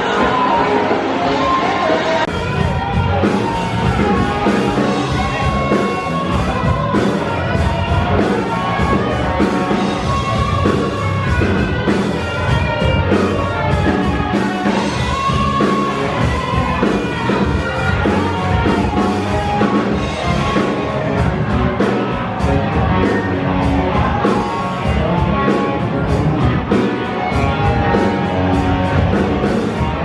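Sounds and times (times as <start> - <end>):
person singing: 0.0 - 30.0
rock guitar over steady beat: 2.3 - 30.0.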